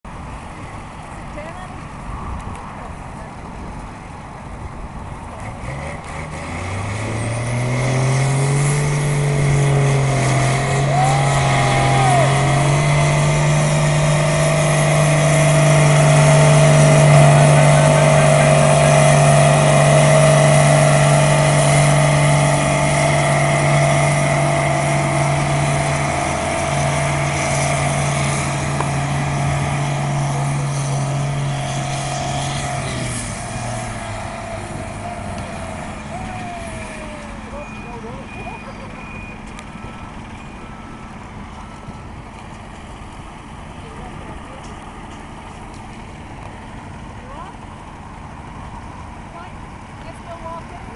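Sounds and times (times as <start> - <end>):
tractor diesel engine revving: 5.2 - 50.9.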